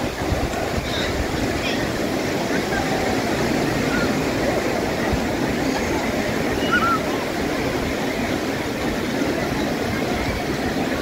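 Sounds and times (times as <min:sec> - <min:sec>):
crowd chatter: 0:00.0 - 0:11.0
surf washing on sand: 0:00.0 - 0:11.0.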